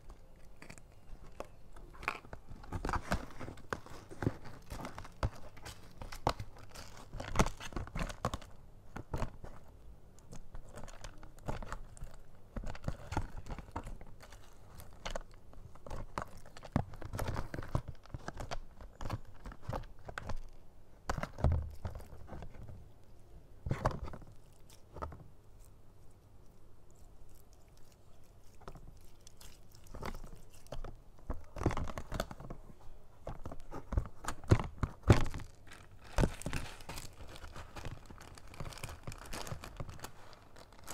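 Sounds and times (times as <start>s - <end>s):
slime crackling and crunching: 0.0s - 22.6s, 23.7s - 32.6s, 33.2s - 40.9s
slime squishing: 0.0s - 23.0s, 23.6s - 40.9s.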